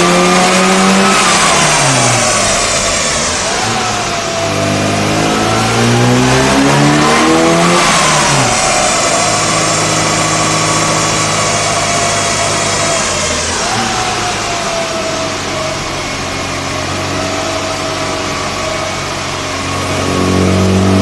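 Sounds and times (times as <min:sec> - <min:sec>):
car engine revving: 0:00.0 - 0:21.0
engine whine: 0:00.0 - 0:21.0.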